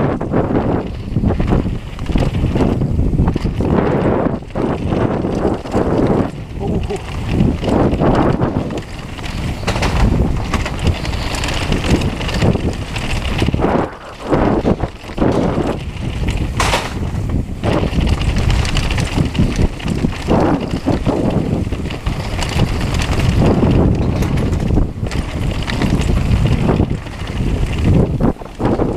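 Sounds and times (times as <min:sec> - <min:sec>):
bike chain and frame rattle: 0:00.0 - 0:28.9
bike tyre noise: 0:00.0 - 0:28.9
wind rushing over microphone: 0:00.0 - 0:28.9.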